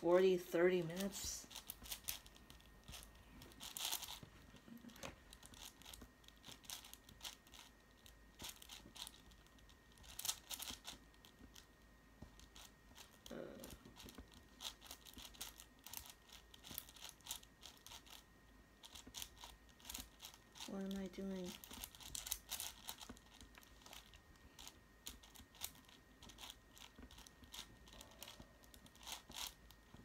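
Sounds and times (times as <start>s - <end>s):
puzzle cube plastic clicks: 0.9s - 18.2s, 18.8s - 30.0s.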